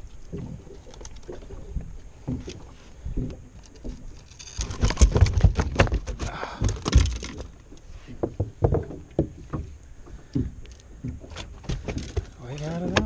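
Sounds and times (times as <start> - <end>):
fish thrashing on boat floor: 2.3 - 13.0.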